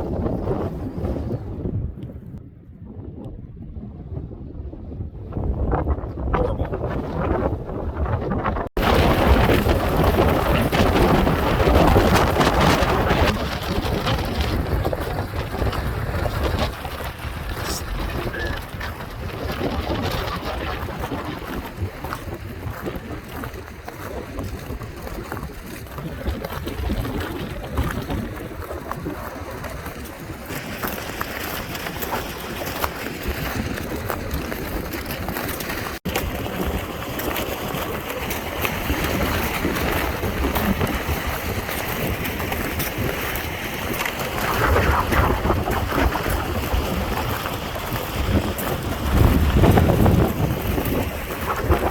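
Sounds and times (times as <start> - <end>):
strong wind buffeting microphone: 0.0 - 51.9.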